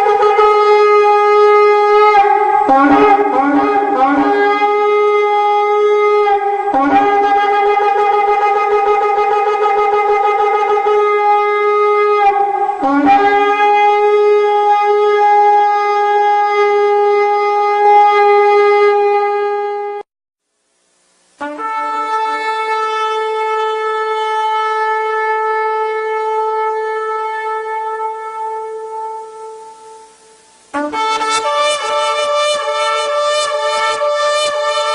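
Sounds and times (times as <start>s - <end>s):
loud horn blasts: 0.0s - 20.0s, 21.4s - 34.9s.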